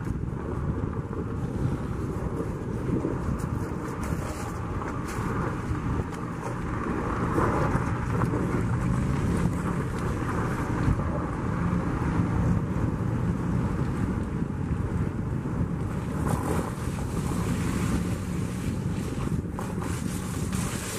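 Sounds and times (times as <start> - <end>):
car engine hum: 0.0 - 20.9
tyre and road rumble: 0.0 - 20.9.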